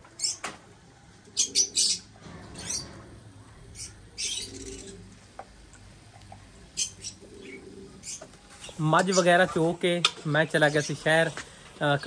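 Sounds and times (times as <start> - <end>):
birds chirping: 0.1 - 0.6, 1.2 - 12.0.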